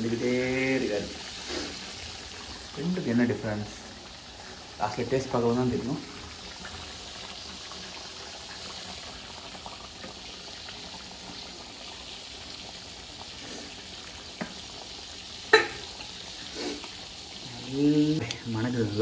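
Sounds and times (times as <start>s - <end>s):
boiling and frying hiss: 0.0s - 19.0s.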